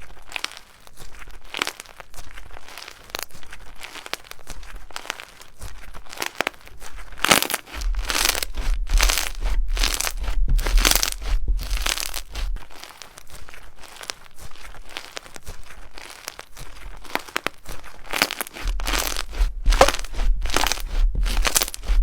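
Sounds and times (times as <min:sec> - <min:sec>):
hands squeezing slime: 0:00.0 - 0:22.0.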